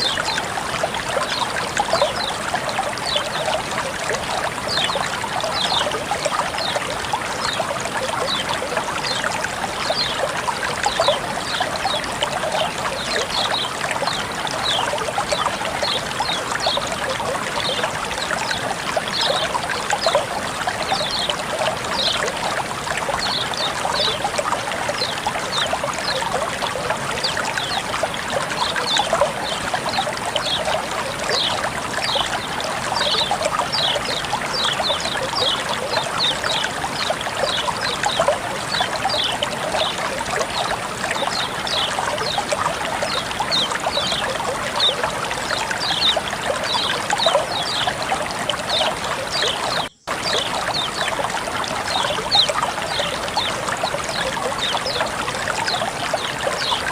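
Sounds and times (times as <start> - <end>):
water trickling and babbling: 0.0 - 56.9.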